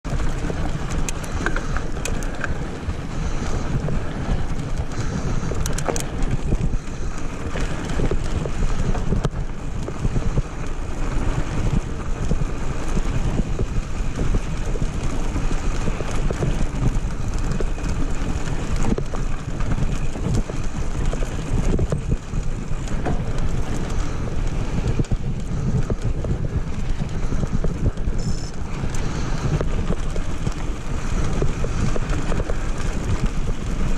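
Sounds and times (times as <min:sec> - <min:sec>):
bike clicks and rattles: 0:00.0 - 0:33.9
bike tyres on gravel: 0:00.0 - 0:33.9
wind buffeting microphone: 0:00.0 - 0:33.9.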